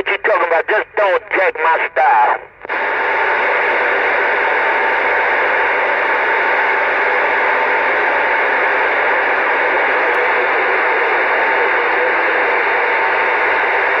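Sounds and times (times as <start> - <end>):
faint whine tones: 0.0 - 14.0
radio static hiss: 0.0 - 14.0.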